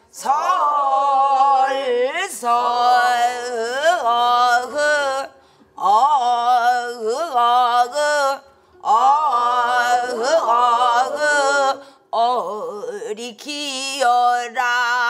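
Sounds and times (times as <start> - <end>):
woman singing folk song: 0.1 - 15.0.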